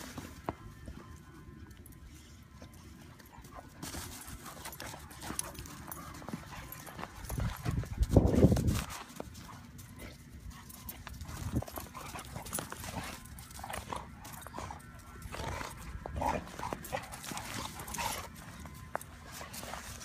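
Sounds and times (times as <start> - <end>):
dogs scuffling in snow: 0.0 - 20.0.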